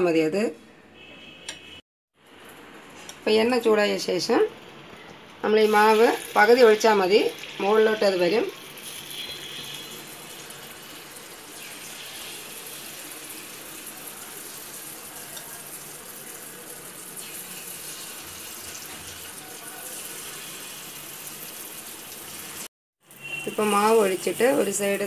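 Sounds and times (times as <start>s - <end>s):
hot oil sizzling: 2.2s - 25.0s.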